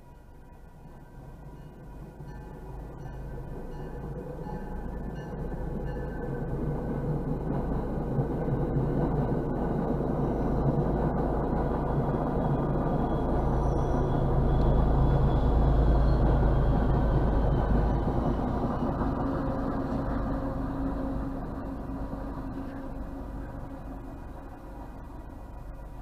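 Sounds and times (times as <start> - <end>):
train passing with low rumble: 0.0 - 26.0.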